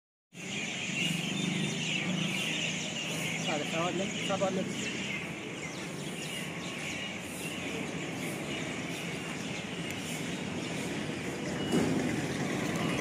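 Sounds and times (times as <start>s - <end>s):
passing traffic hum: 0.3s - 13.0s.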